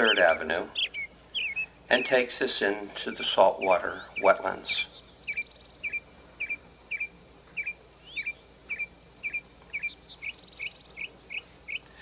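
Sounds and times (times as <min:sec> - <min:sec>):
songbird sharp chirps: 0:00.0 - 0:02.3, 0:03.0 - 0:12.0.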